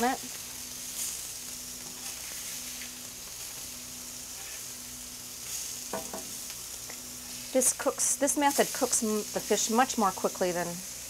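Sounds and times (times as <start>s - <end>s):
fish sizzling on a griddle: 0.0s - 11.0s.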